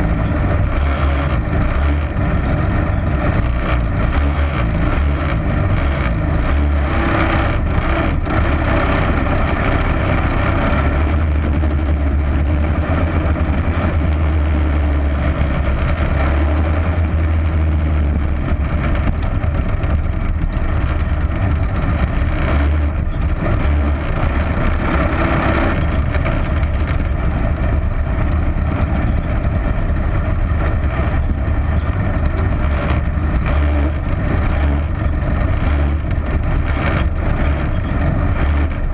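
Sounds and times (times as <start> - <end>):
race vehicle engine rumbling: 0.0 - 38.9.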